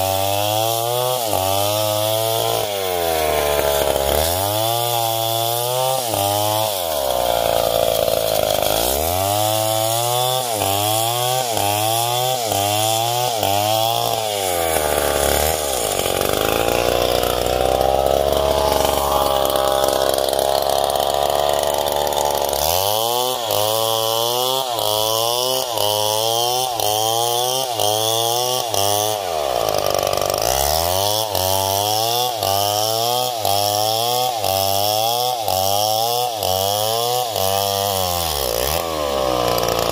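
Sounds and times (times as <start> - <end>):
chainsaw ripping wood: 0.0 - 39.9.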